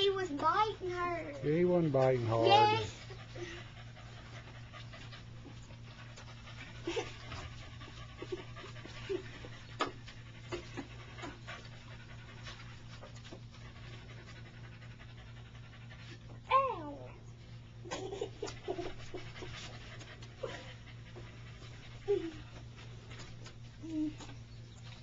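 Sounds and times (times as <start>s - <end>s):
animals scuffling: 0.0s - 16.4s, 17.7s - 25.0s
small dog panting: 0.0s - 25.0s.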